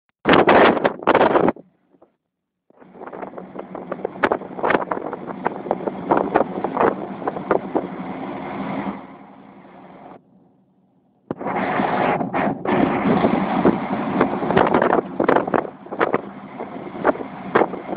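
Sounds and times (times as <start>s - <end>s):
wind on microphone: 0.2s - 2.1s, 2.8s - 9.2s, 11.3s - 17.9s
diesel truck engine running: 2.7s - 17.9s.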